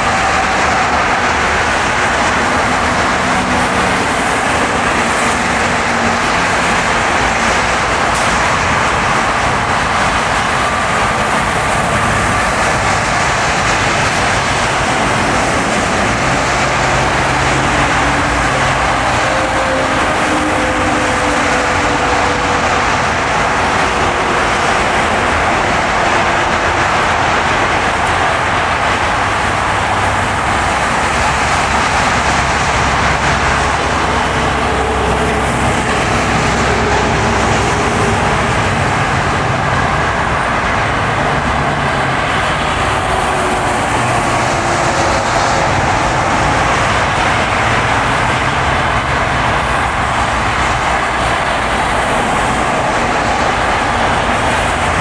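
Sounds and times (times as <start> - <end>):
car tyre road noise: 0.0 - 55.0.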